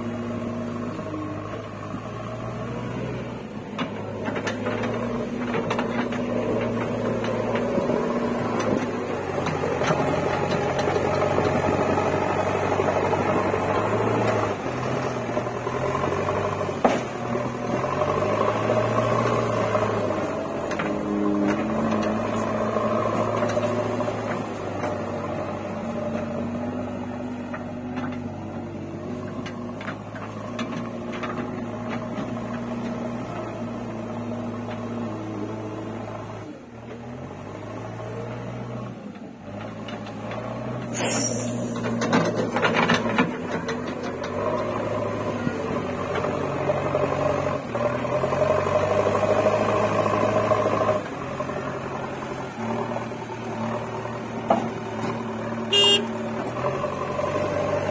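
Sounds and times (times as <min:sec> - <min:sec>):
diesel engine under load: 0:00.0 - 0:57.9.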